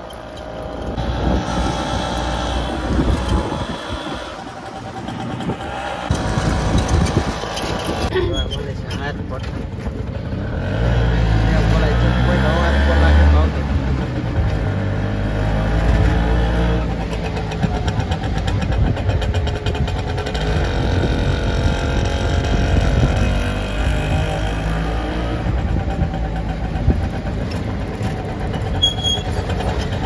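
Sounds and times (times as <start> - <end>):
auto-rickshaw engine running: 0.0 - 30.0
road noise: 0.0 - 30.0.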